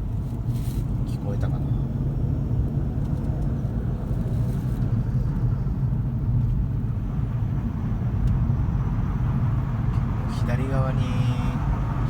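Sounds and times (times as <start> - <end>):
car moving at low speed: 0.0 - 12.0.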